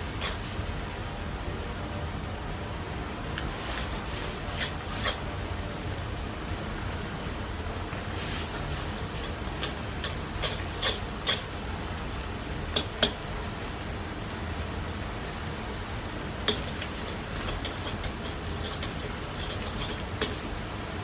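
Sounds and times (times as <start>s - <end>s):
gas burner roaring: 0.0s - 21.0s.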